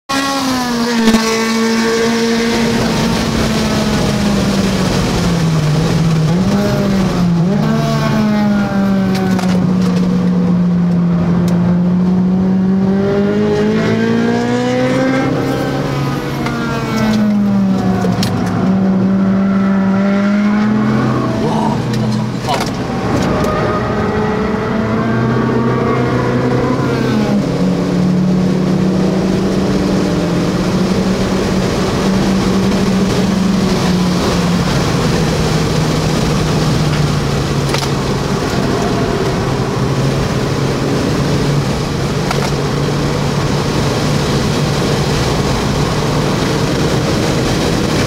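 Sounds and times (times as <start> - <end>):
car engine revving in cabin: 0.1 - 48.0.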